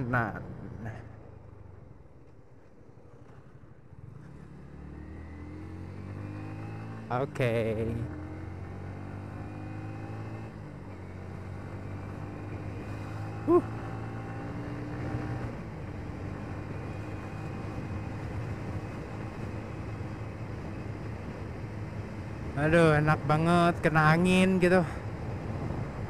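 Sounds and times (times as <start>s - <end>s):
motorcycle engine cruising: 0.0s - 26.0s
wind and road rush: 0.0s - 26.0s.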